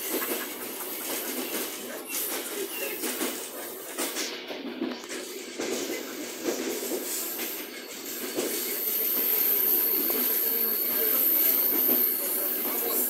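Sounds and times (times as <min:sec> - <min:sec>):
train wheel rumble and hiss: 0:00.0 - 0:13.0.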